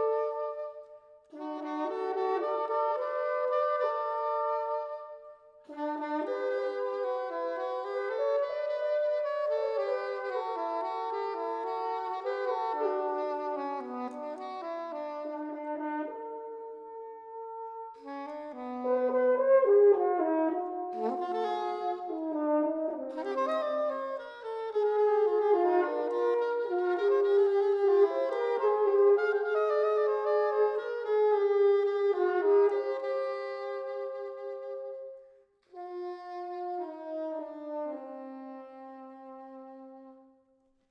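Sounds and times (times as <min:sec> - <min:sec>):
french horn: 0:00.0 - 0:40.4
soprano saxophone: 0:00.0 - 0:40.9.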